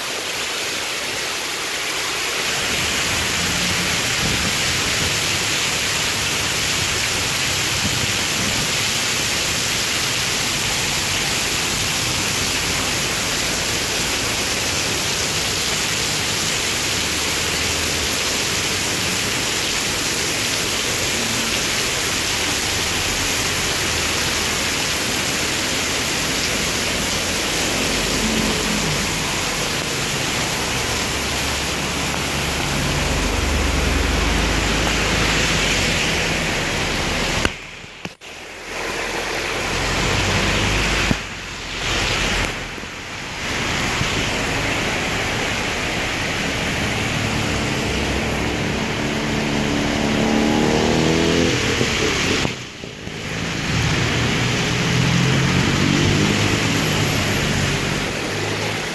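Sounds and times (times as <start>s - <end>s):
torrential rain on pavement: 0.0s - 58.9s.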